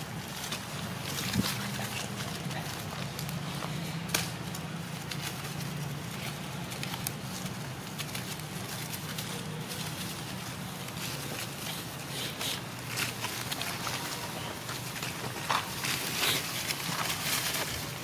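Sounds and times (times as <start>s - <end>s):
grass and dry leaves rustling: 0.0s - 18.0s.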